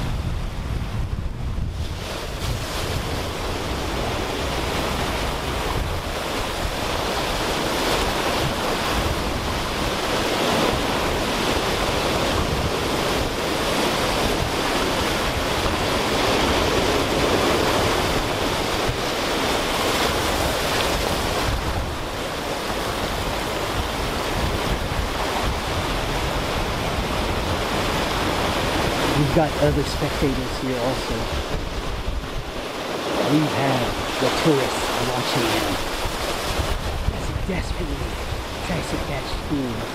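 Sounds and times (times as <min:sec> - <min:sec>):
surf washing over rocks: 0:00.0 - 0:39.9
wind buffeting microphone: 0:00.0 - 0:39.9.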